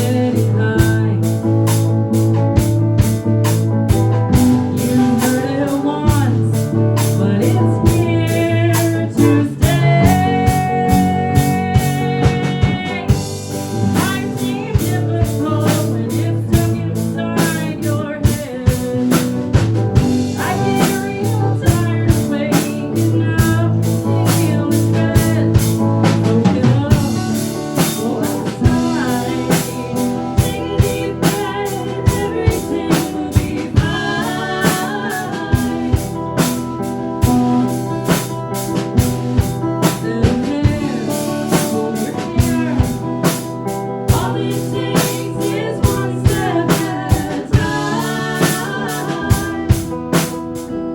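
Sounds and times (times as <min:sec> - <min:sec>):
drum kit beat: 0:00.0 - 0:50.9
electric guitar: 0:00.0 - 0:50.9.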